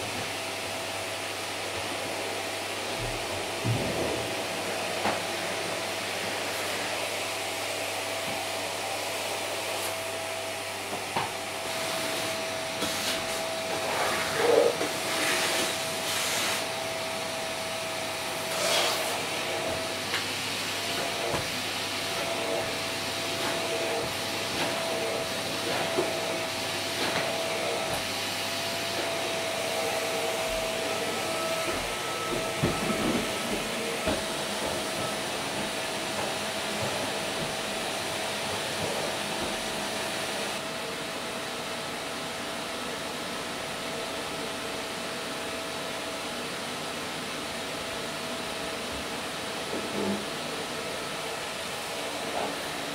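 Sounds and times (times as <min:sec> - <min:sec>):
vacuum cleaner on carpet: 0:00.0 - 0:52.9.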